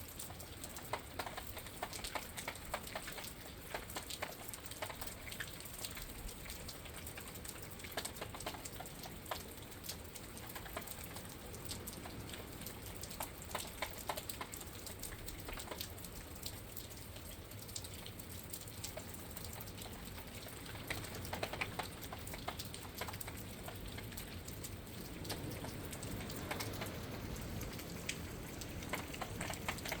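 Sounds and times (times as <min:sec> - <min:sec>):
rain pattering: 0:00.0 - 0:30.0
raindrops ticking on window: 0:00.0 - 0:30.0.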